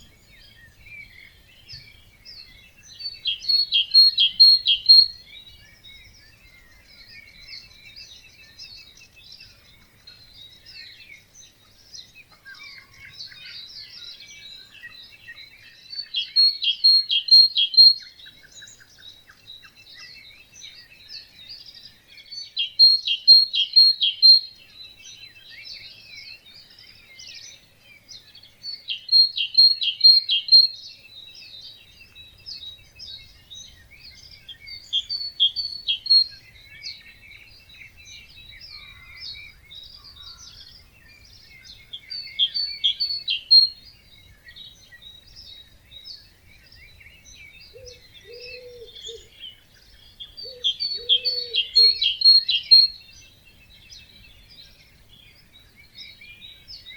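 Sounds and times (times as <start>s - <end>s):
bird song of quick notes: 0.0s - 56.9s
birds chattering: 0.0s - 56.9s.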